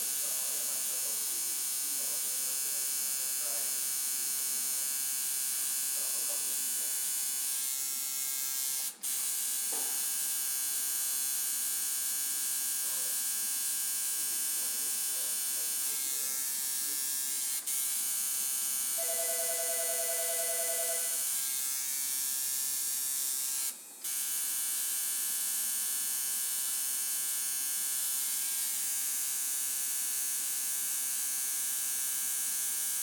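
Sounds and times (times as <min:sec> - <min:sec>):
tattoo machine buzzing: 0:00.0 - 0:33.0.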